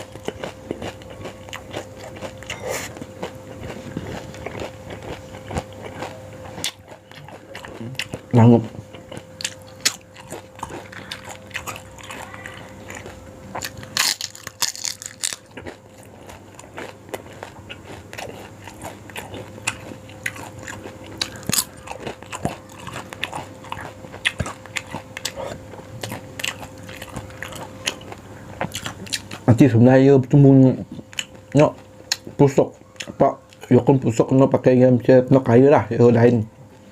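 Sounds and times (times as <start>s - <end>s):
close-miked crunching and chewing: 0.0s - 34.5s.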